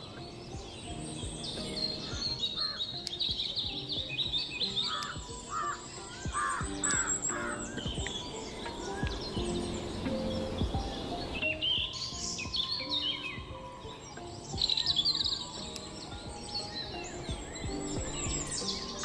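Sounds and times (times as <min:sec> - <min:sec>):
birds chirping: 0:00.0 - 0:19.0
louder lower bird calls: 0:00.0 - 0:19.0.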